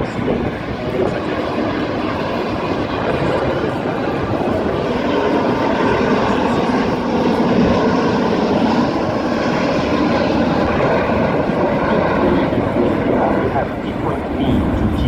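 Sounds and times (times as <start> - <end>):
jet plane flying by: 0.0 - 15.0.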